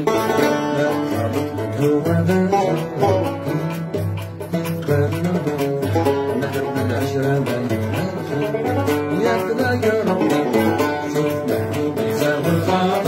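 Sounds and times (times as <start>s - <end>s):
oud plucked fast: 0.0s - 13.0s.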